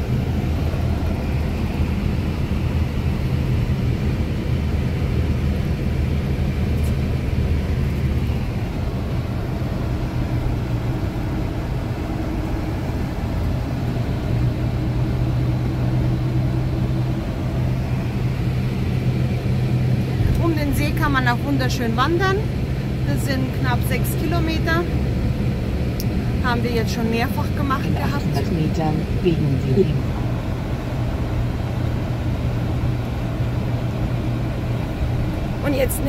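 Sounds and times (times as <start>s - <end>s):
vehicle driving on wet road: 0.0s - 36.0s.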